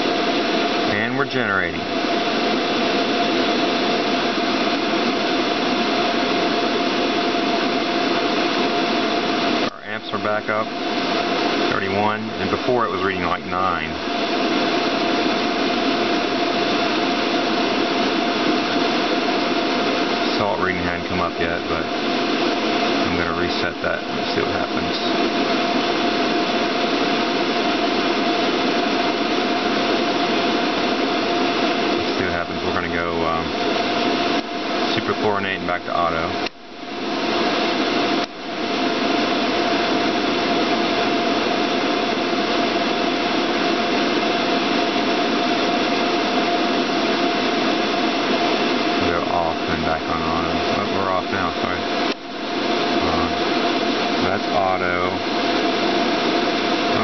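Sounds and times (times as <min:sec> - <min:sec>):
pool pump motor running: 0:00.0 - 0:57.0.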